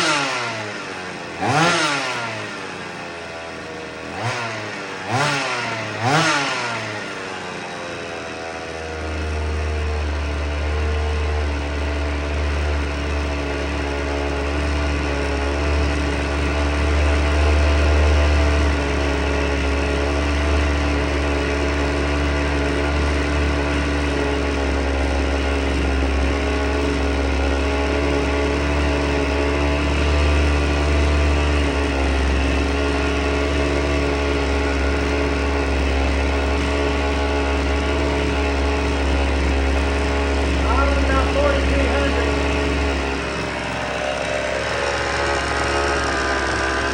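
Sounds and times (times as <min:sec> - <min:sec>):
chainsaw engine running: 0:00.0 - 0:46.9.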